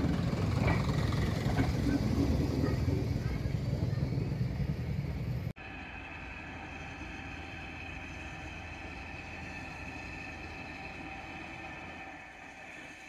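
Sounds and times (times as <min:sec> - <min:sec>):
locomotive engine hum: 0:00.0 - 0:13.0.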